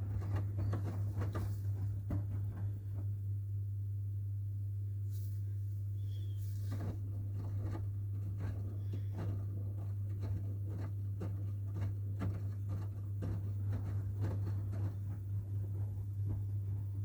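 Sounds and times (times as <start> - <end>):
washing machine tumbling laundry: 0.0 - 3.5, 6.0 - 17.0
low hum: 0.0 - 17.0.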